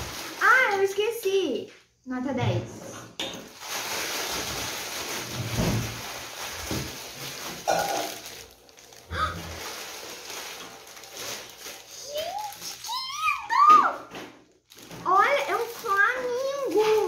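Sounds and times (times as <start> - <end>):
plastic packaging rustling: 0.0 - 1.8, 3.4 - 17.0.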